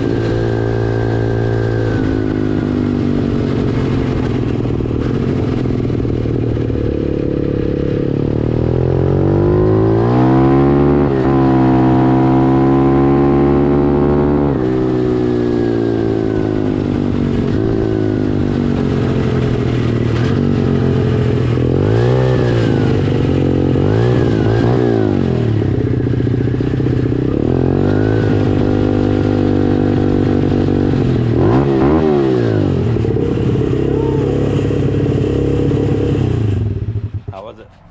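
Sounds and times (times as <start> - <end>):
motorbike engine revving: 0.0 - 37.9.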